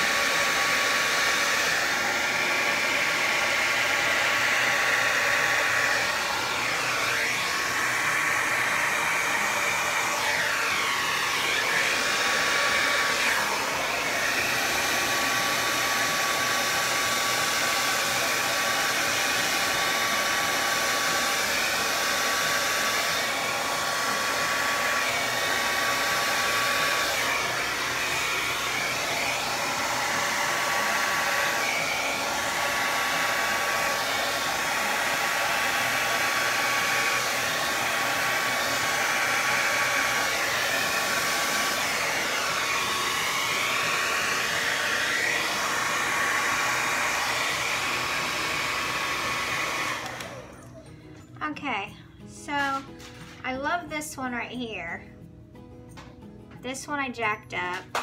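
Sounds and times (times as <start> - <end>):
hair dryer blowing: 0.0 - 54.4, 56.8 - 58.0.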